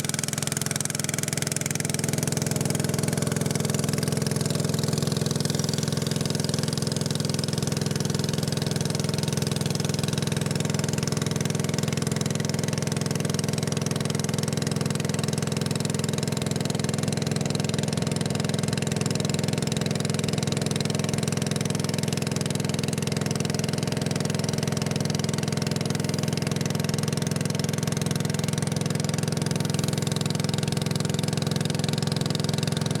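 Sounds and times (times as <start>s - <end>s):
motorboat engine drone: 0.0s - 33.0s.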